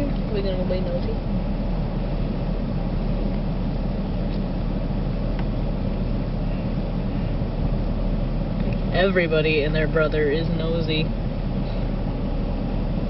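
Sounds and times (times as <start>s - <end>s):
engine and road noise in cabin: 0.0s - 13.0s.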